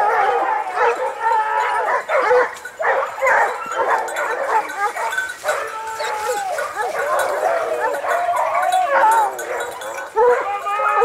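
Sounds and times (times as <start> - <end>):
hounds baying and yelping: 0.0 - 11.0.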